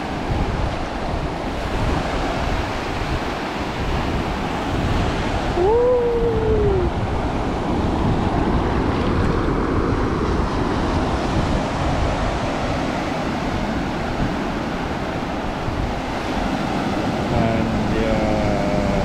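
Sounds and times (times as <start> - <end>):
ocean surf washing in: 0.0 - 19.0
wind buffeting microphone: 0.0 - 19.0.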